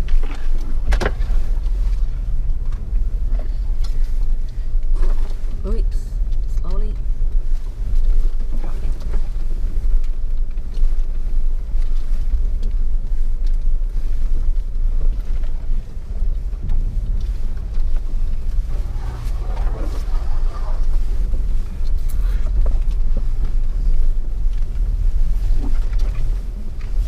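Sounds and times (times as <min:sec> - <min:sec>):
off-road vehicle engine rumbling: 0:00.0 - 0:27.0.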